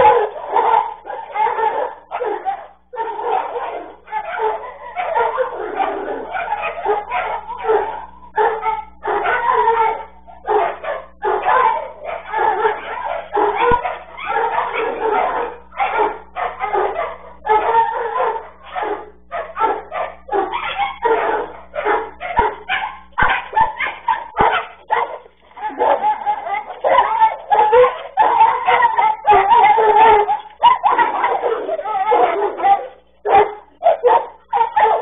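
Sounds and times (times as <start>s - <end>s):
dogs barking and yelping: 0.0s - 35.0s.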